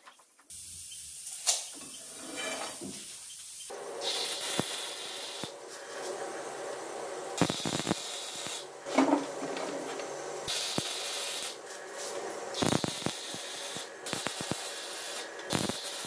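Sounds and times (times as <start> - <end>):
welder arc crackling hiss: 0.0 - 16.0.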